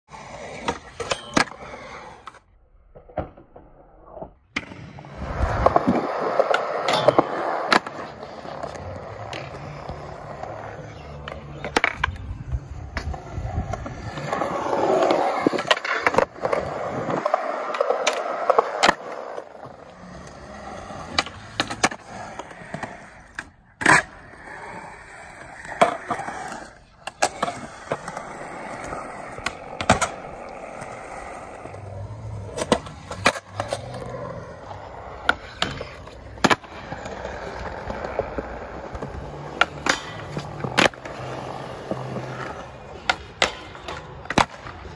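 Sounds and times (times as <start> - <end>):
skateboard wheels rolling on concrete: 0.1 - 44.9
skateboard clacking on ground: 0.5 - 2.4, 4.5 - 44.9.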